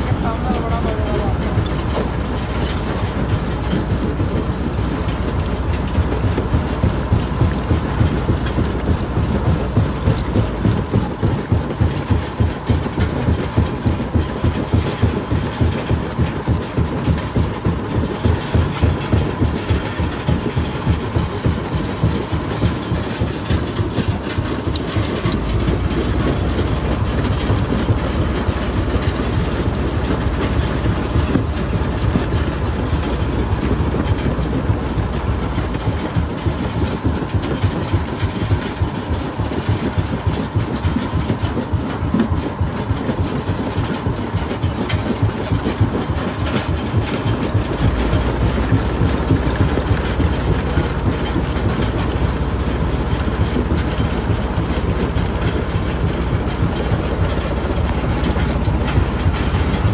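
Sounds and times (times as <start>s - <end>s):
deep steady rumble: 0.0s - 59.9s
jaw crusher pounding stone: 0.0s - 59.9s.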